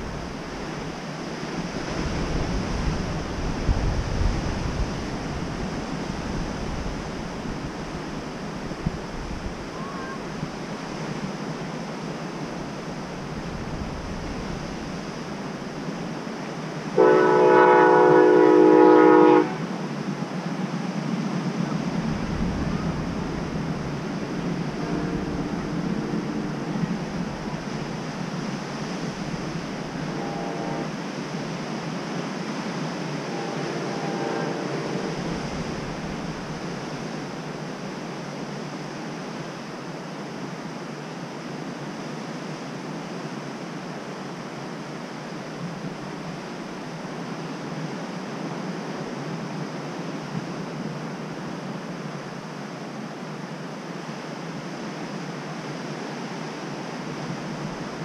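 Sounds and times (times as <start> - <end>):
surf on rocky beach: 0.0 - 58.0.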